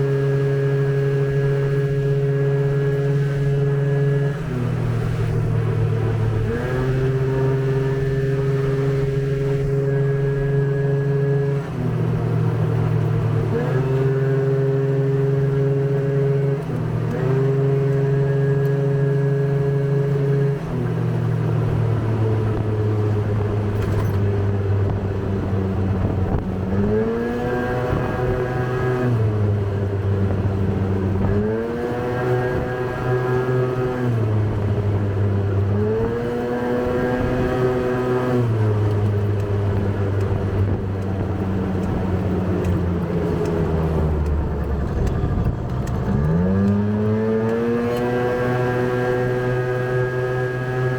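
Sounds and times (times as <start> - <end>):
motorbike engine revving: 0.0 - 20.9, 25.7 - 50.9.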